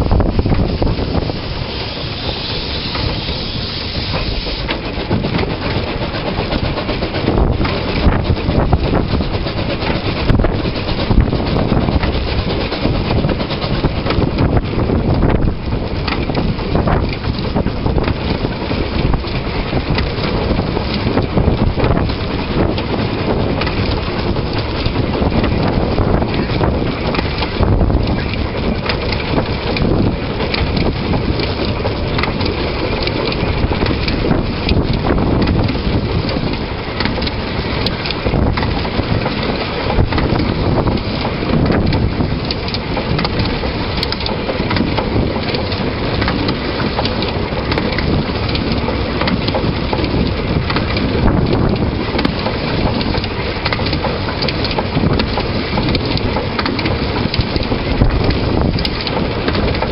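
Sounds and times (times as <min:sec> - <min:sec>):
train wheels rumbling on rails: 0:00.0 - 0:59.9
wind buffeting microphone: 0:00.0 - 0:59.9.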